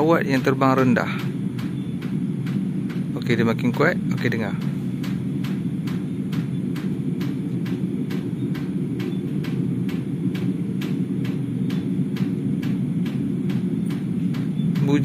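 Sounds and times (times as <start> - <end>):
low droning rumble: 0.0 - 15.0.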